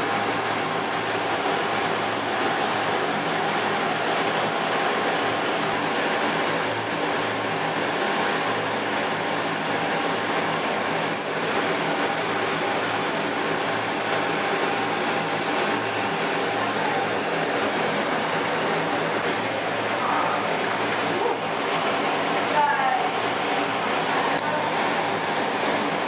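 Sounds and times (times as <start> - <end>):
aquarium pumps humming: 0.0 - 26.0
circulating water: 0.0 - 26.0
low mechanical drone: 0.0 - 26.0.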